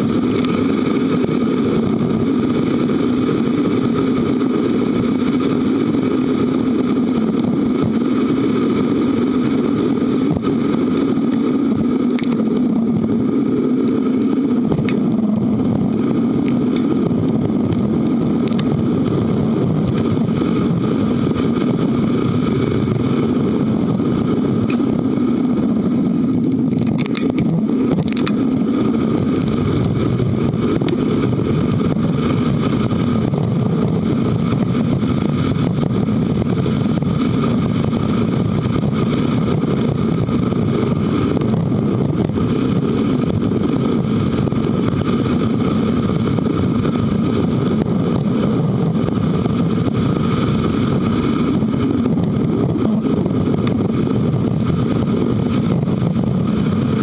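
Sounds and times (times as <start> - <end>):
bicycle rattles: 0.0 - 57.0
motor traffic passing: 0.0 - 57.0
wind and road noise: 0.0 - 57.0.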